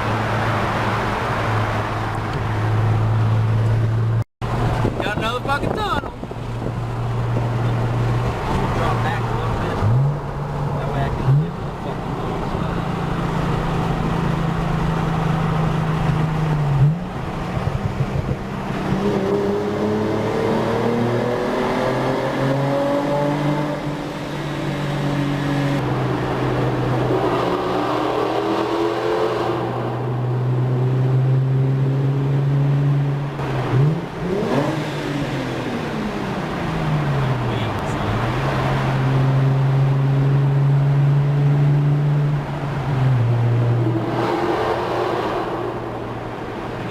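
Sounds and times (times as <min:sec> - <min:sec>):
car engine revving: 0:06.3 - 0:46.9.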